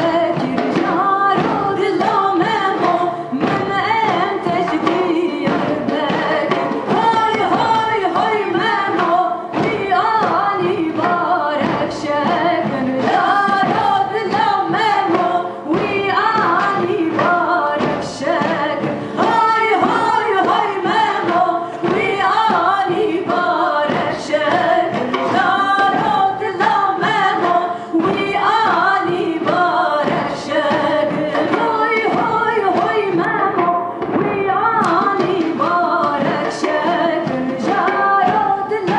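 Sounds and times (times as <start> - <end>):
two women singing a folk song: 0.0 - 38.9.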